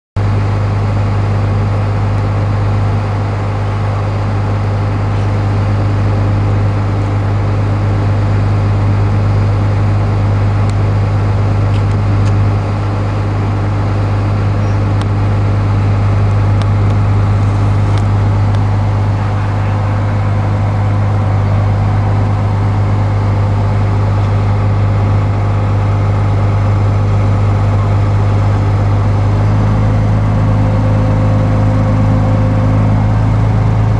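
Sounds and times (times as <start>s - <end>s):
large engine idling: 0.2s - 33.9s.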